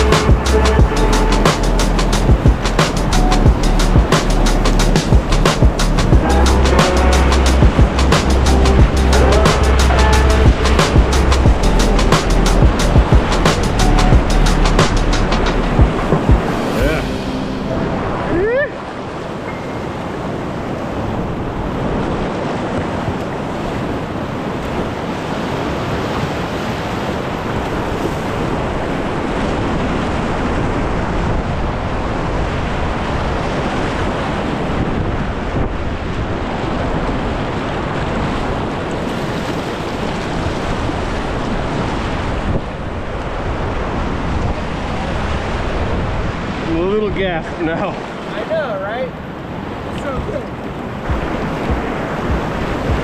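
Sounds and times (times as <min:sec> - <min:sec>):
wind noise on microphone: 0:00.0 - 0:47.3, 0:49.2 - 0:53.0
whitewater rapids rushing: 0:00.0 - 0:53.0.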